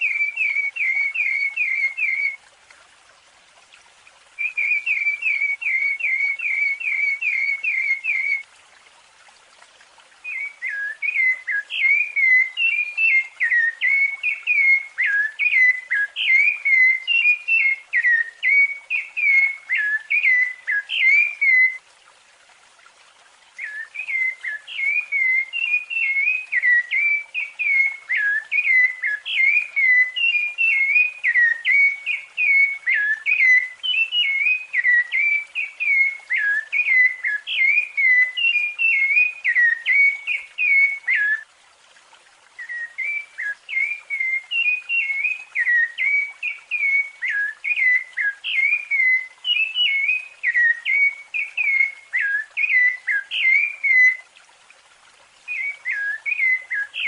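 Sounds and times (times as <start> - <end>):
thrush singing whistled notes: 0.0 - 2.4, 4.4 - 8.5, 10.2 - 21.8, 23.6 - 41.5, 42.6 - 54.3, 55.4 - 57.0.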